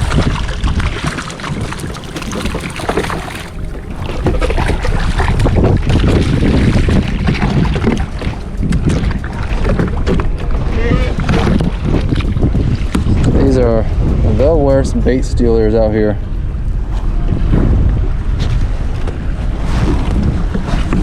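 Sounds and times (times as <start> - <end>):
choppy sea splashing: 0.0 - 21.0
wind buffeting microphone: 0.0 - 21.0.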